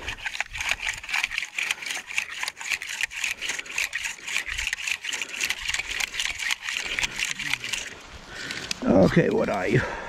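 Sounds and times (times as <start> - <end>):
dry soil and grass crackling: 0.0 - 10.0.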